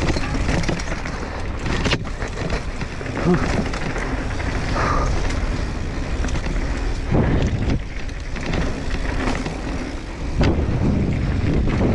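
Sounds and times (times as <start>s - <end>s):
bike jolts: 0.0s - 11.9s
tyres rolling on dirt: 0.0s - 11.9s
wind noise on microphone: 0.0s - 11.9s.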